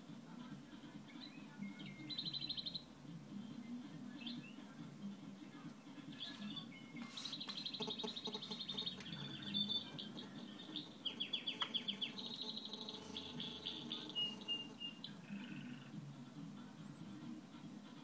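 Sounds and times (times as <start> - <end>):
low steady hum: 0.0 - 18.0
songbirds singing through speakers: 0.3 - 18.0.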